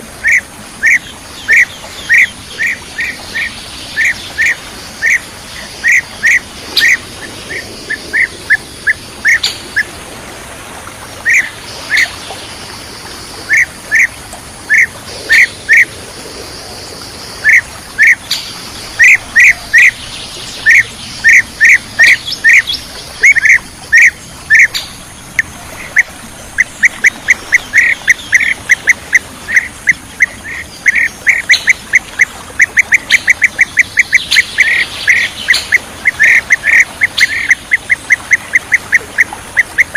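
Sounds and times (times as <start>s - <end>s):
bird calls: 0.0s - 10.0s, 11.2s - 12.8s, 13.4s - 16.7s, 17.4s - 39.9s.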